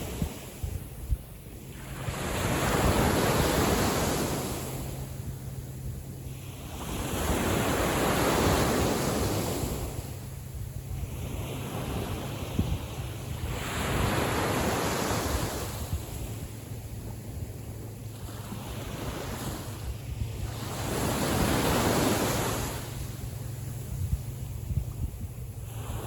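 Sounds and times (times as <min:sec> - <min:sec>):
sea waves washing onto beach: 0:00.0 - 0:05.6, 0:06.2 - 0:26.0.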